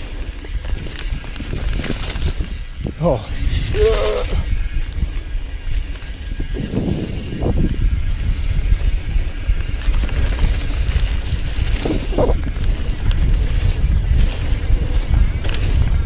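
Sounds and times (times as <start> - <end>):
bike rattling over bumps: 0.0 - 16.0
bike tyres rolling on dirt: 0.0 - 16.0
wind buffeting microphone: 0.0 - 16.0.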